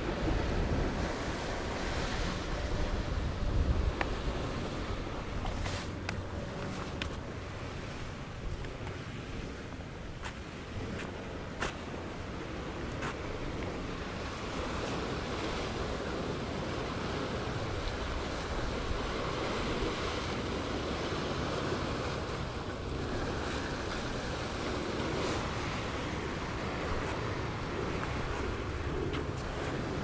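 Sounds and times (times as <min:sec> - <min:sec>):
waves washing onto shore: 0:00.0 - 0:30.0
wind on microphone: 0:00.0 - 0:30.0.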